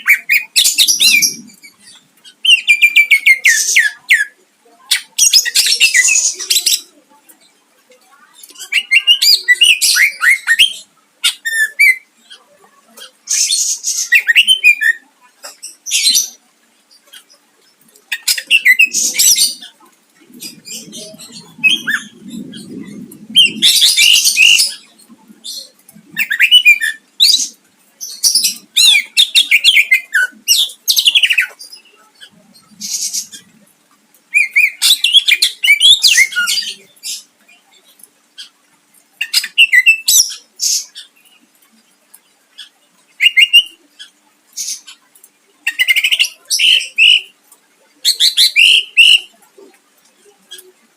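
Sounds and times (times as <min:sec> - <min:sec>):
leafbird chattering song: 0:00.0 - 0:50.9.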